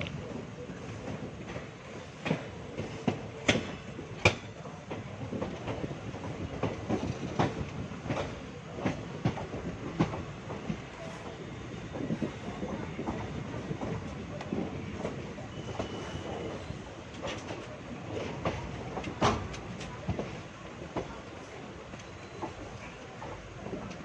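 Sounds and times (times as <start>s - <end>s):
train wheels rolling rumble: 0.0s - 24.0s.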